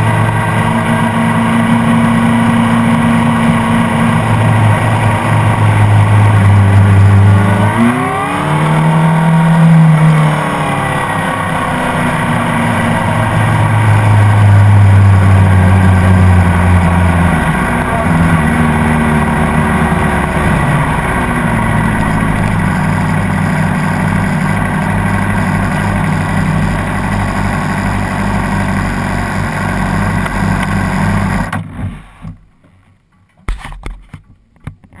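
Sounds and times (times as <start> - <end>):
motorcycle engine running at low revs: 0.0 - 32.5.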